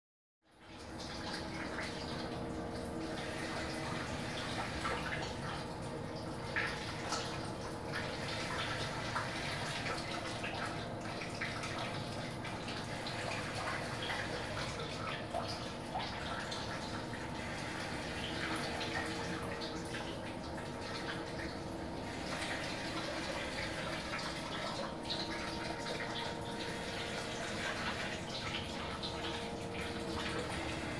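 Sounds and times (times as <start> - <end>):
oven fan hum: 0.5 - 30.9
water trickling and dripping: 0.5 - 30.9.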